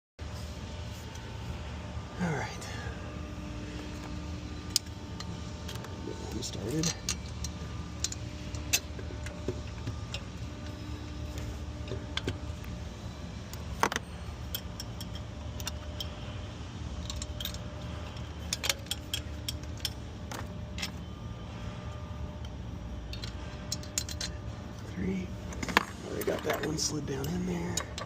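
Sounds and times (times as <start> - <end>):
steady low hum: 0.2 - 28.0.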